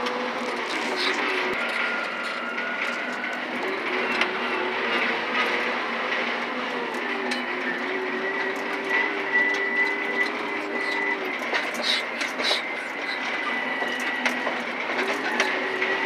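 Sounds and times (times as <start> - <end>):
cab rattles: 0.0 - 16.0
diesel truck engine under load: 0.0 - 16.0.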